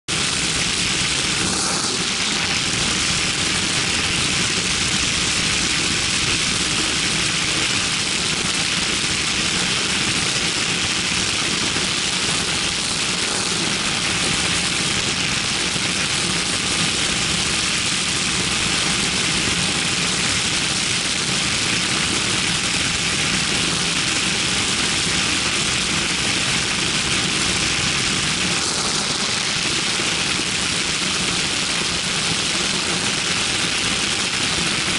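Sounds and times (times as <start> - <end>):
aircraft engine and propeller: 0.1 - 34.9.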